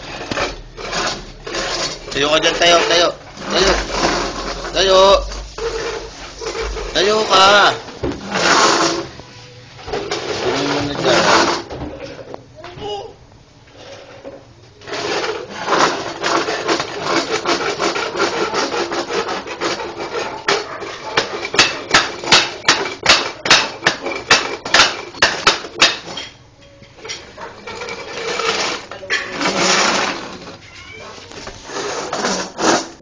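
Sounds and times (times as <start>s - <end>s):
metal chair scraping on concrete: 0.0s - 12.4s, 13.6s - 33.0s.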